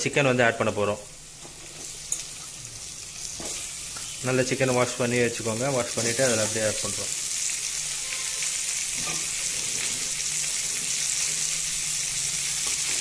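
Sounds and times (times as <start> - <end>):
chicken sizzling in hot oil: 0.7 - 13.0.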